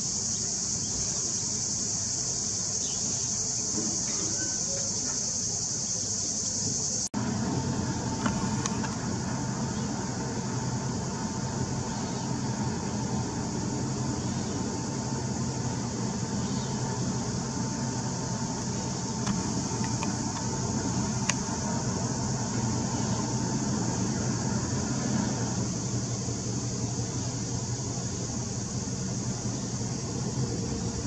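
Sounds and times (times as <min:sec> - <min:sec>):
high hiss: 0:00.0 - 0:31.0
ship engines droning: 0:01.4 - 0:31.0.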